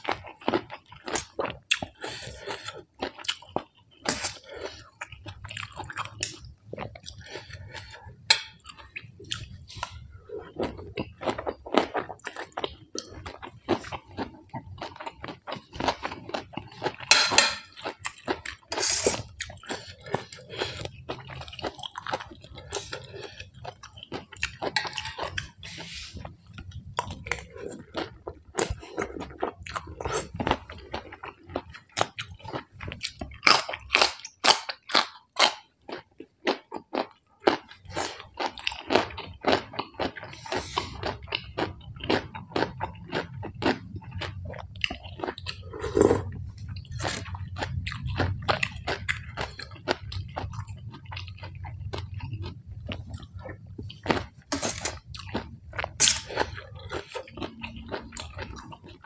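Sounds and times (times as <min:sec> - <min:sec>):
close chewing and crunching: 0:00.0 - 0:59.0.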